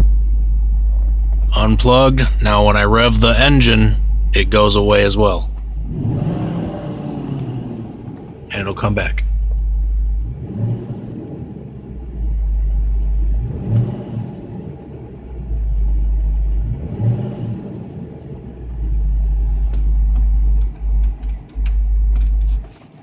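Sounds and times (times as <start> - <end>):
deep subwoofer hum: 0.0 - 22.8
car engine revving: 0.0 - 23.0.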